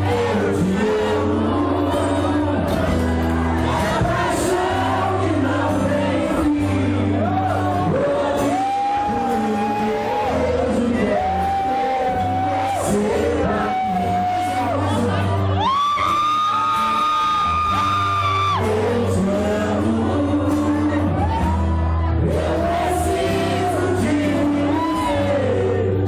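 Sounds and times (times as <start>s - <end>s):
band playing: 0.0s - 26.0s.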